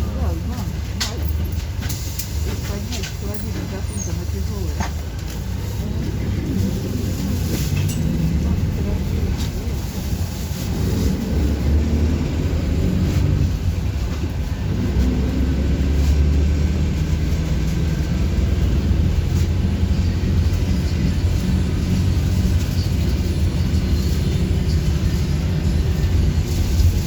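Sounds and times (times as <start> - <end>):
bus engine drone: 0.0 - 27.0
road noise: 0.0 - 27.0.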